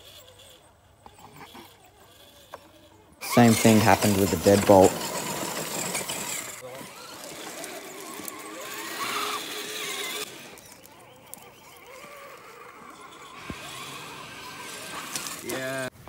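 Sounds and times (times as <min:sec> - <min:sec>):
electric motor and gears whirring: 0:00.0 - 0:16.0.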